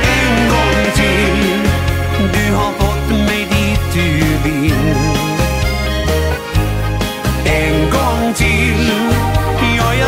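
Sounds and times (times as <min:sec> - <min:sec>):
instrumental dance band song: 0:00.0 - 0:10.0.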